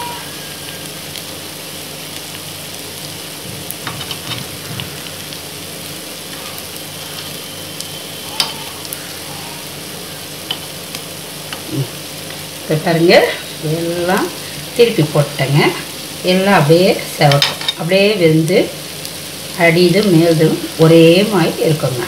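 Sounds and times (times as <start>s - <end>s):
dumplings sizzling in hot oil: 0.0s - 22.0s.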